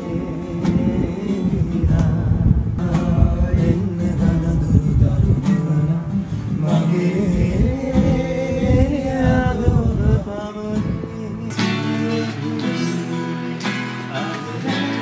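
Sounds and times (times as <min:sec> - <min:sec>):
man singing: 0:00.0 - 0:15.0
strummed acoustic guitar: 0:00.0 - 0:15.0.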